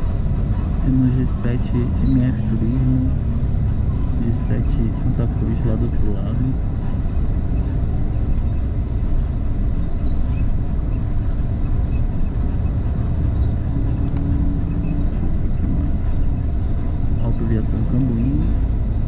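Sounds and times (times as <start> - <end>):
bus engine rumble: 0.0 - 19.0.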